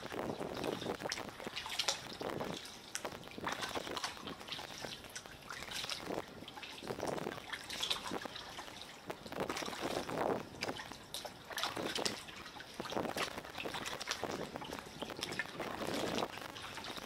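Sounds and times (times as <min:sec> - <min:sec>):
water lapping and dripping: 0:00.0 - 0:17.0.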